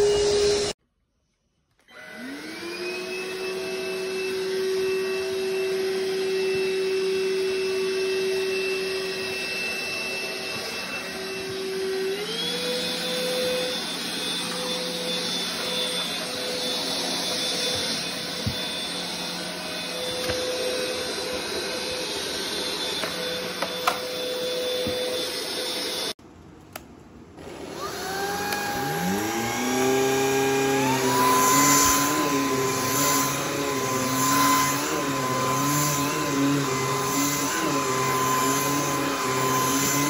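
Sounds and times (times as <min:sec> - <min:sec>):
stick vacuum cleaner running: 0:00.0 - 0:00.8, 0:01.9 - 0:26.2, 0:27.4 - 0:40.0
vacuum motor whining: 0:00.0 - 0:00.8, 0:01.9 - 0:26.2, 0:27.4 - 0:40.0.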